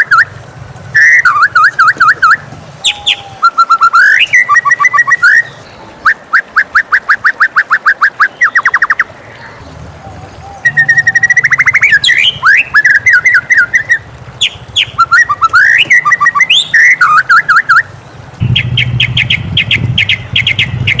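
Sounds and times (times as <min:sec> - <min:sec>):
bird singing whistled notes: 0:00.0 - 0:00.3, 0:01.0 - 0:09.1, 0:10.5 - 0:21.0
bird chattering: 0:01.0 - 0:09.7, 0:10.6 - 0:21.0.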